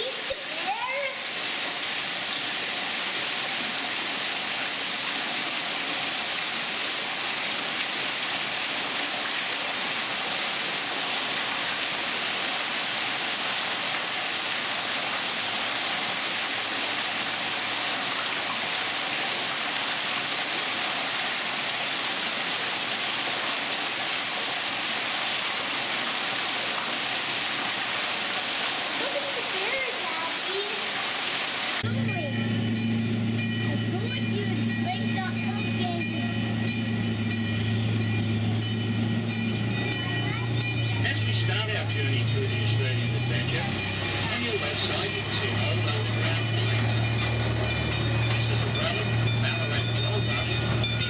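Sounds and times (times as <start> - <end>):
falling water rushing: 0.0 - 51.0.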